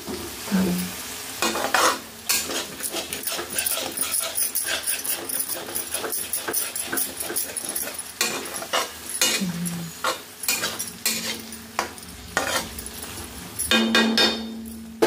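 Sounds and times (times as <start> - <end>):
curry sizzling in pan: 0.0 - 15.0
metal spatula scraping metal pan: 1.4 - 14.4.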